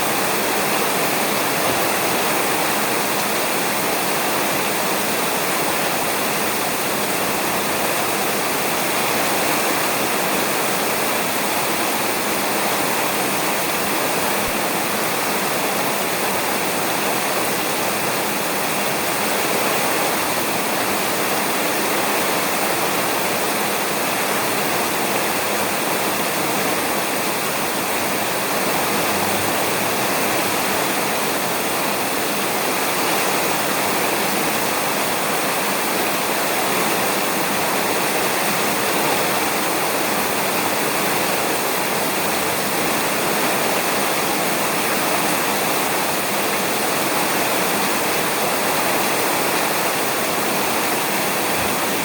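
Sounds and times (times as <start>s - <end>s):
heavy rain on a roof: 0.0s - 52.0s.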